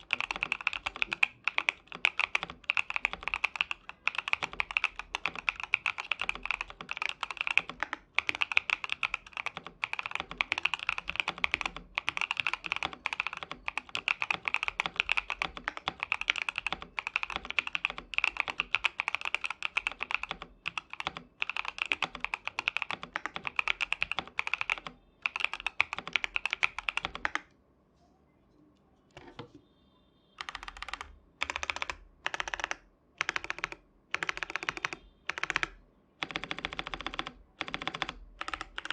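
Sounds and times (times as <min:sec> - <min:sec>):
fast mechanical keyboard typing: 0:00.0 - 0:27.5, 0:30.4 - 0:38.9.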